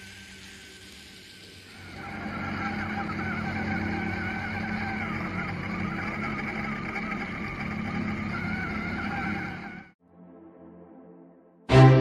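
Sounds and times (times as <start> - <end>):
small motor whine: 0.0 - 10.0.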